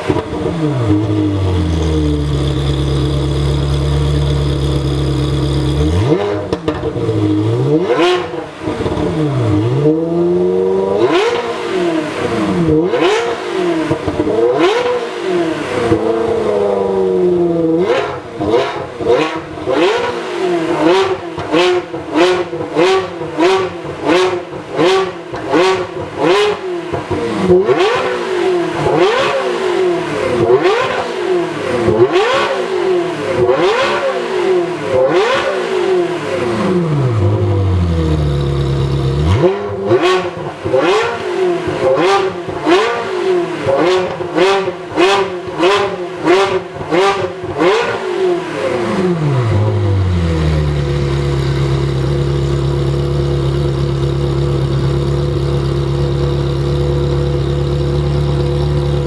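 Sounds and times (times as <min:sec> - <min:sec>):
sports car engine revving: 0:00.0 - 0:59.0.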